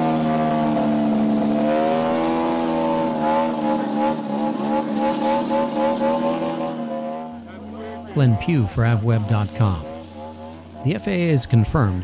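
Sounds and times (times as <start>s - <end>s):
model airplane motor wavering: 0.0s - 11.4s.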